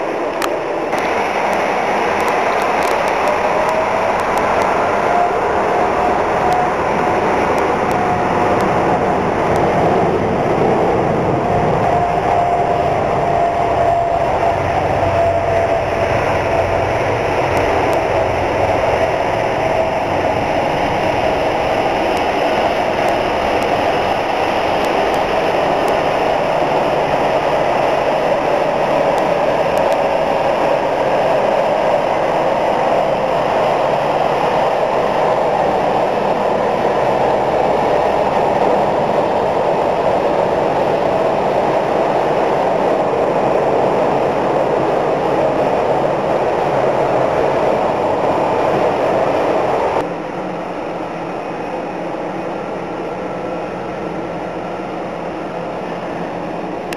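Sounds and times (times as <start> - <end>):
faint whine: 0.0 - 56.9
jet engines roaring: 0.0 - 56.9.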